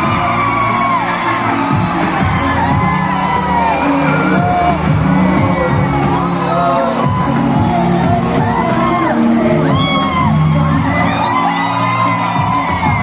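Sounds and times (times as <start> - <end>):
crowd whooping: 0.0 - 13.0
live pop song: 0.0 - 13.0.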